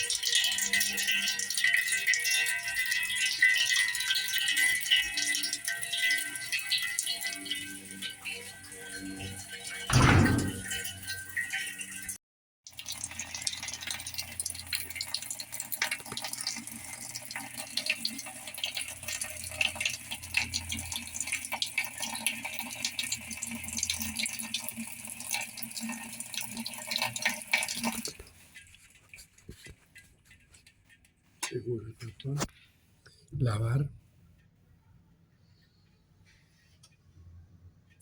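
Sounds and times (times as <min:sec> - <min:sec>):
water running into washing machine: 0:00.0 - 0:31.0.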